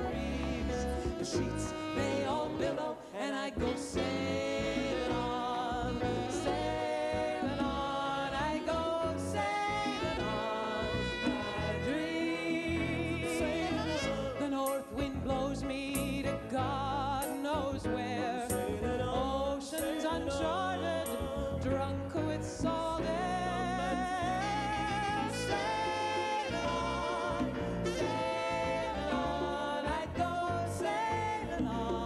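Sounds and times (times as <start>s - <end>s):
piano and band accompaniment: 0.0s - 32.0s.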